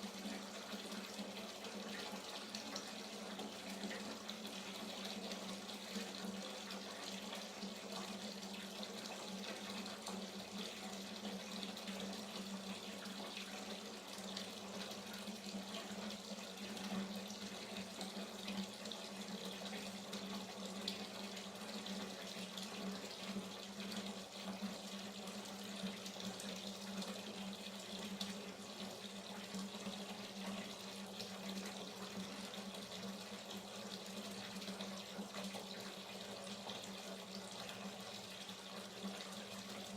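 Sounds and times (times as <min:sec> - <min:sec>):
tap water filling a bathtub: 0:00.0 - 0:39.9.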